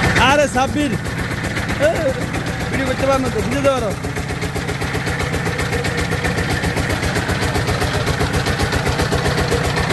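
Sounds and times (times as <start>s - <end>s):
diesel engine chugging: 0.0s - 9.9s.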